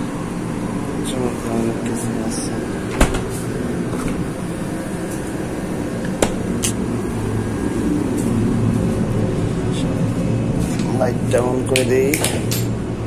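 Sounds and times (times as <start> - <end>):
cooling fans humming: 0.0 - 13.0.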